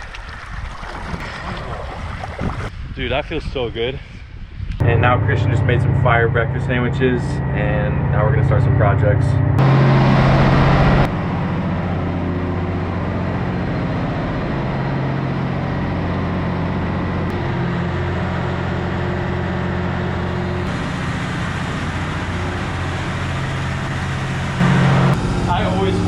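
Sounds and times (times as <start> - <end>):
engine room machinery droning: 4.7 - 26.0.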